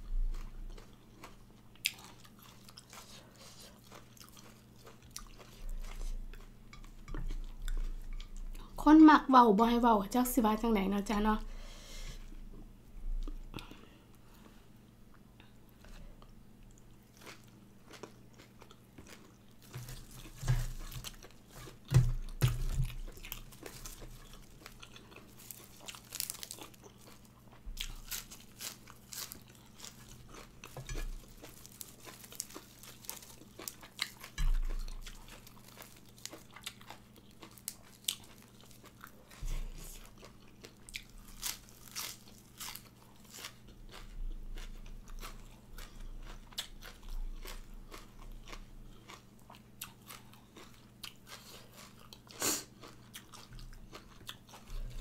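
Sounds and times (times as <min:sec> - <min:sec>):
person chewing crunchy food: 0:00.0 - 0:08.8, 0:13.2 - 0:55.0.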